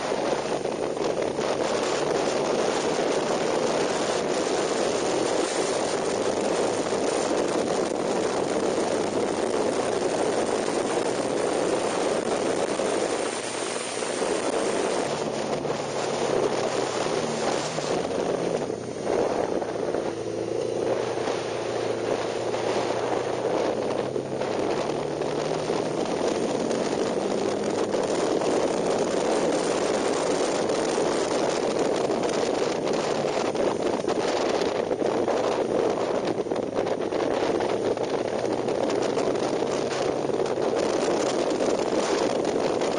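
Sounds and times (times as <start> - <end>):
heavy wind rush: 0.0 - 42.9
motorcycle engine at speed: 0.0 - 42.9.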